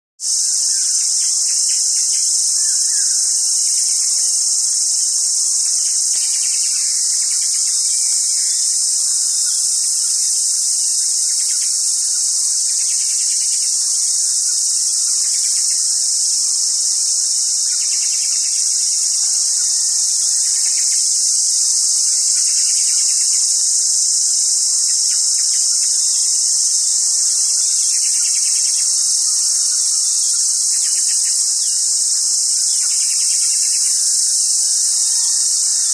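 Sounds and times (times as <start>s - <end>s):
high-pitched insect chorus: 0.2s - 35.9s.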